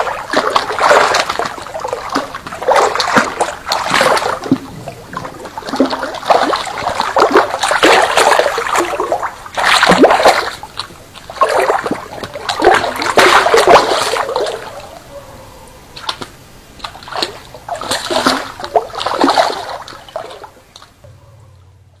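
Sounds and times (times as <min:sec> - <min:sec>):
fish thrashing and splashing: 0:00.0 - 0:14.9, 0:16.0 - 0:21.0.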